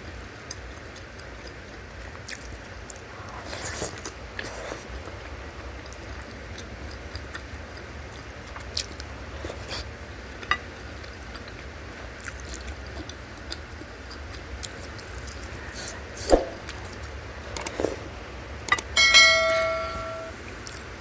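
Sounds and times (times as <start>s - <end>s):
wet chewing and mouth sounds: 0.0s - 18.1s, 20.4s - 21.0s.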